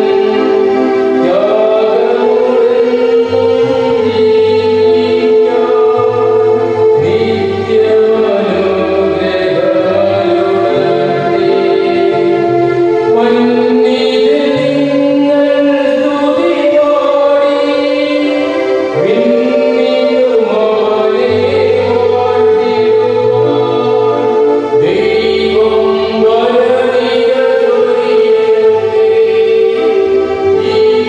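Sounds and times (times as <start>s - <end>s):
choir singing a hymn: 0.0s - 31.0s.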